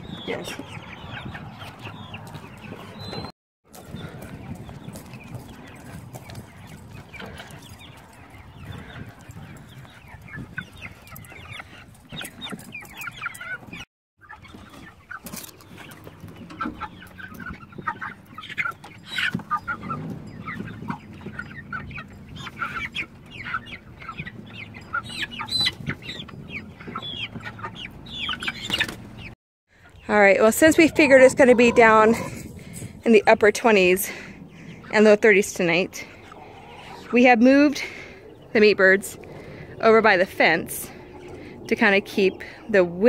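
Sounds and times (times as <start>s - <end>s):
chickens clucking and peeping: 0.0s - 43.0s.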